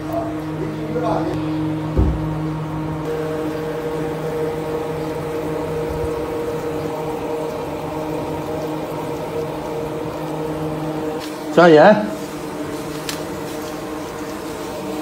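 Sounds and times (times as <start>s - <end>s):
broth boiling in a wok: 0.0s - 15.0s
steady machine hum: 0.0s - 15.0s.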